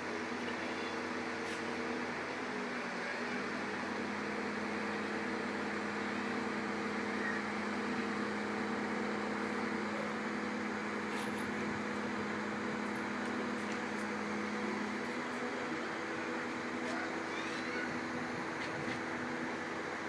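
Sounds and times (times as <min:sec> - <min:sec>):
heavy vehicle engine humming: 0:00.0 - 0:20.0.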